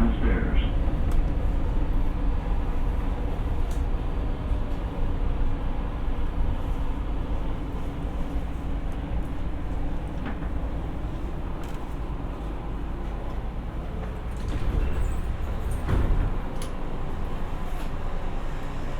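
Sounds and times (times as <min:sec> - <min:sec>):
light rail car rumbling: 0:00.0 - 0:18.9.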